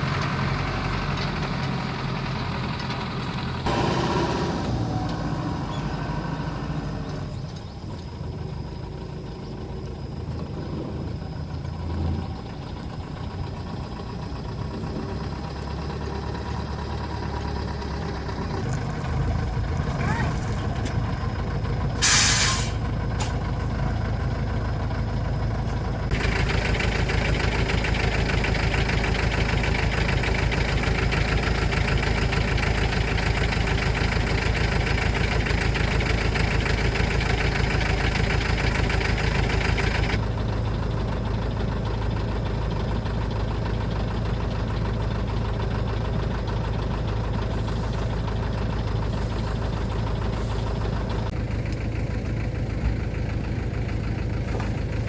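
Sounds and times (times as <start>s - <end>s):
truck engine idling with knocking: 0.0s - 55.0s.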